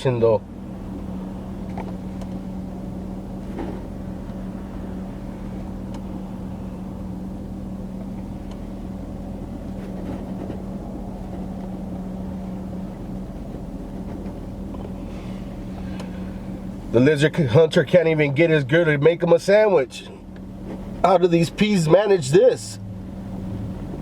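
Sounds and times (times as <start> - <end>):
car engine idling in cabin: 0.0 - 24.0.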